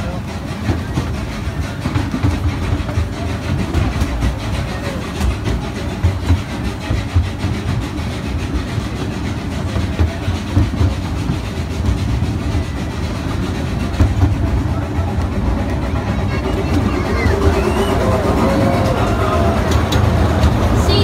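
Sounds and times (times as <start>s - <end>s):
ride train rumbling: 0.0s - 21.0s
wheels knocking and rattling: 0.0s - 21.0s.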